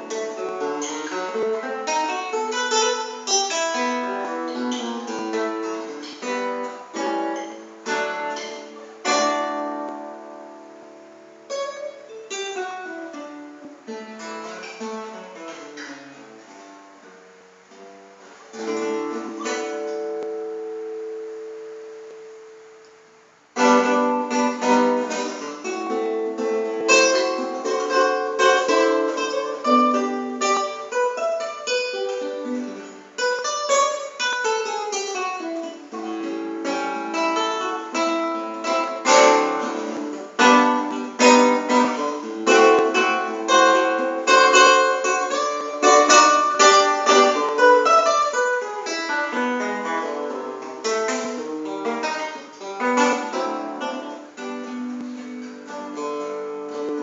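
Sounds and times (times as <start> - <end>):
plucked guitar tune: 0.0 - 57.0.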